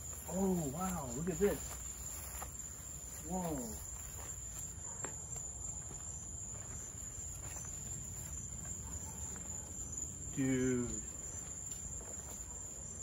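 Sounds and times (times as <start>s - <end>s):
crickets chirping: 0.0s - 13.0s
faint footsteps: 0.0s - 13.0s.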